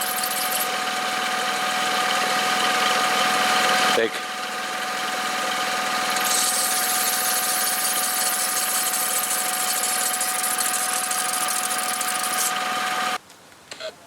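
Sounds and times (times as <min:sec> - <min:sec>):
car engine idling with belt whine: 0:00.0 - 0:13.2.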